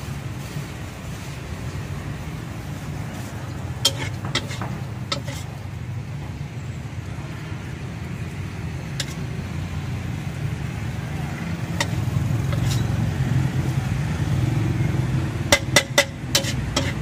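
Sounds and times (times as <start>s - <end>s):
spatula scraping a wok: 0.0s - 5.8s, 8.9s - 17.0s.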